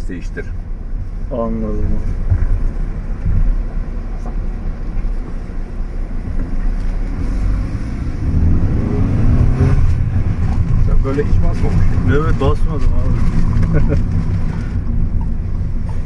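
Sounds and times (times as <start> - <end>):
car engine revving: 0.0 - 16.0
road noise inside car: 0.0 - 16.0.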